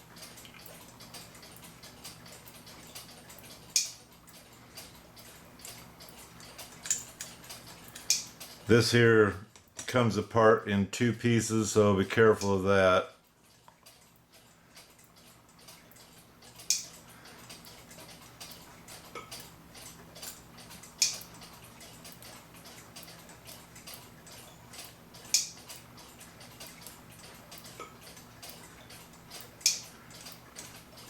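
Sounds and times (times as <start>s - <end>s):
metal clock parts clicking: 0.1s - 8.8s, 12.2s - 31.0s.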